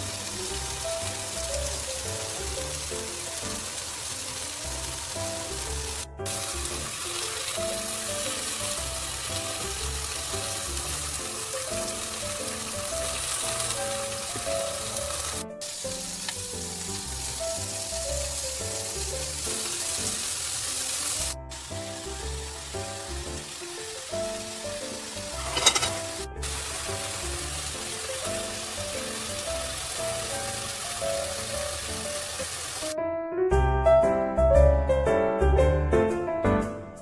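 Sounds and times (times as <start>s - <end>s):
meat sizzling: 0.0s - 33.0s
background music: 0.0s - 37.0s.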